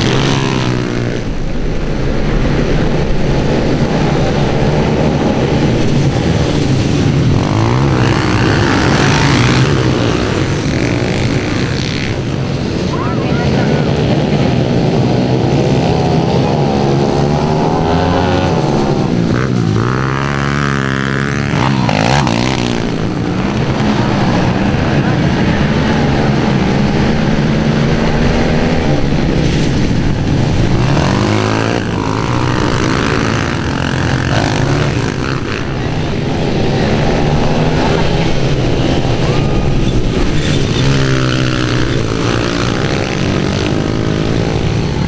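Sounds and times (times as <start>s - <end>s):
dirt bike engines revving past: 0.0s - 45.0s.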